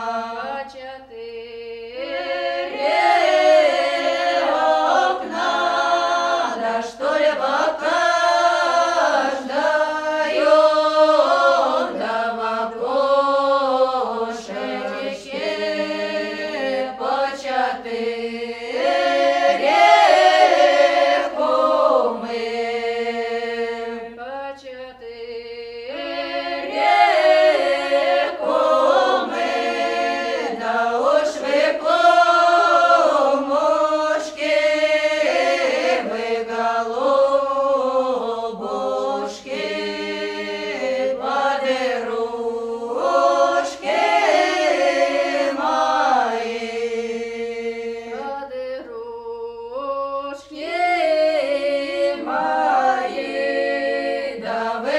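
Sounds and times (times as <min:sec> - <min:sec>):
choir singing: 0:00.0 - 0:54.9.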